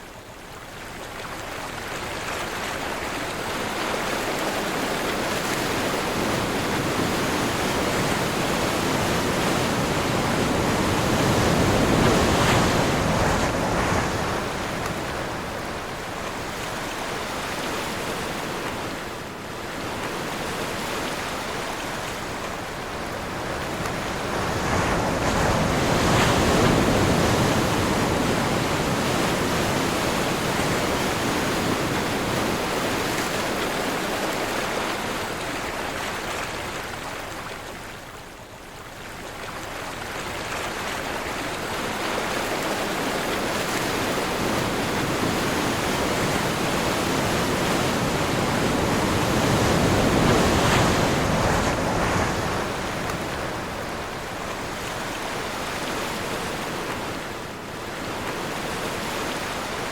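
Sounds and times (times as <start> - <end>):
wind: 0.0 - 59.9
sea waves washing: 1.4 - 38.1, 39.0 - 59.9.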